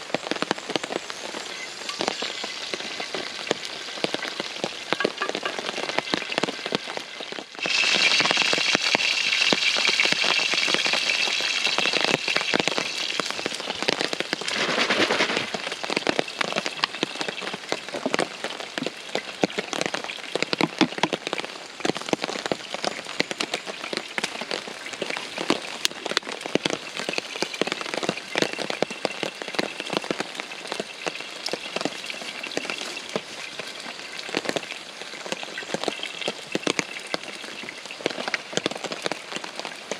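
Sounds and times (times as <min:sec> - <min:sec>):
heavy rain drumming on a tarp: 0:00.0 - 0:39.9.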